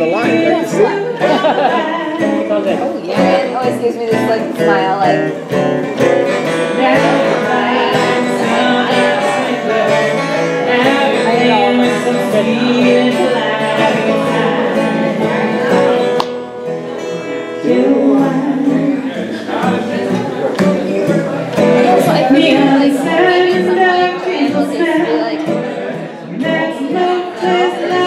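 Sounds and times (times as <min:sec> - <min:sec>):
woman singing: 0:00.0 - 0:05.4, 0:06.6 - 0:16.2, 0:17.5 - 0:28.0
strummed acoustic guitar: 0:00.0 - 0:28.0.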